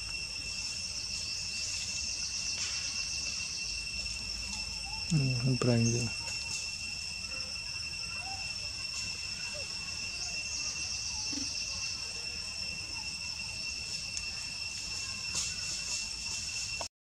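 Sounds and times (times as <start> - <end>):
insects droning: 0.0 - 16.9.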